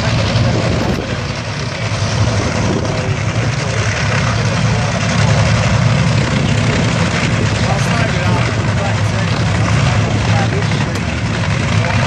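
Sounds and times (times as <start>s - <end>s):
racing engine idling: 0.0s - 12.0s.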